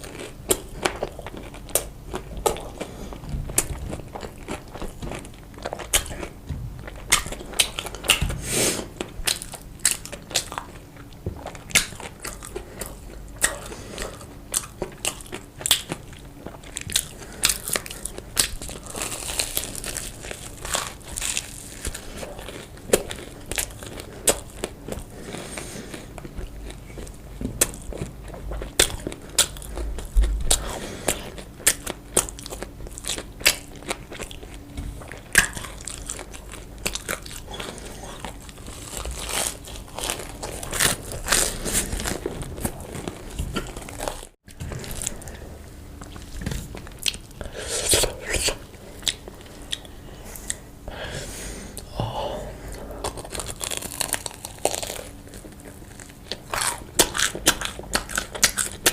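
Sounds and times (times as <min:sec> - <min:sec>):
crunchy chewing: 0:00.0 - 0:50.8, 0:51.7 - 0:58.9.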